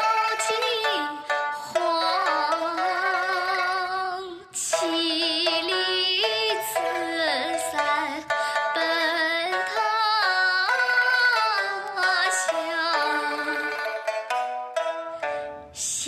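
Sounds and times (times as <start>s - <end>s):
plucked string instrument: 0.0s - 16.0s.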